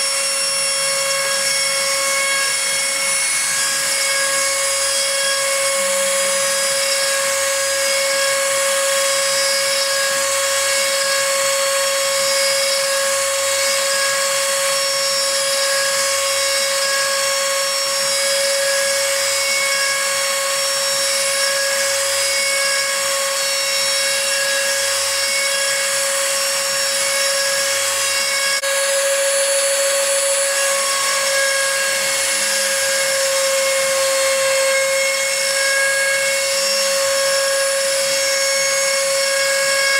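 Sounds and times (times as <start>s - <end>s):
spindle whining while engraving wood: 0.0s - 39.9s.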